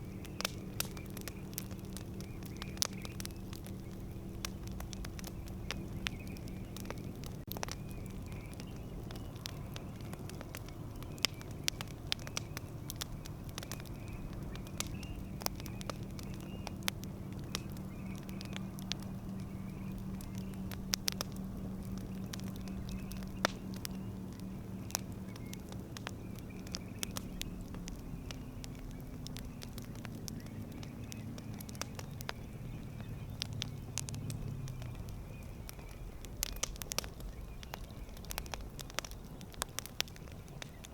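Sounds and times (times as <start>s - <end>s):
campfire crackling: 0.0s - 40.9s
low steady hum: 0.0s - 40.9s.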